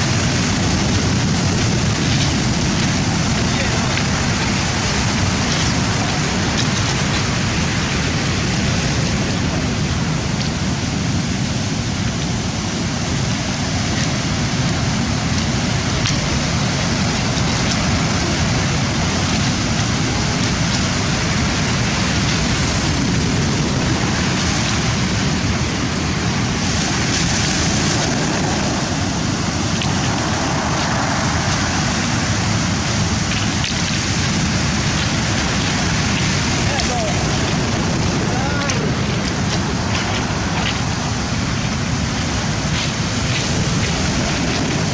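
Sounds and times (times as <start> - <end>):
surf breaking on shore: 0.0 - 44.9.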